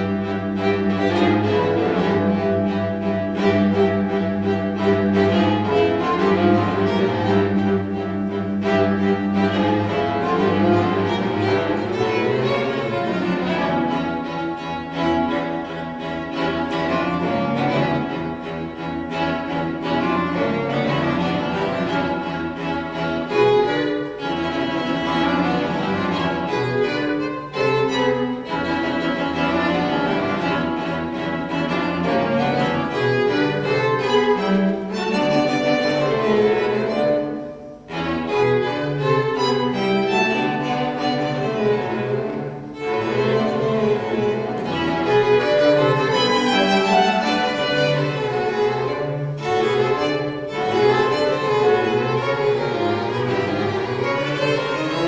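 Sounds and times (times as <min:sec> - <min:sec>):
string trio playing: 0:00.0 - 0:55.0.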